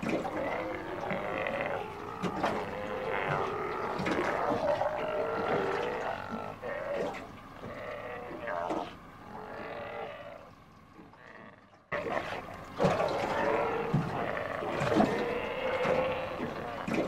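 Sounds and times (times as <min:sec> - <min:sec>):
sea lions calling: 0:00.0 - 0:17.0.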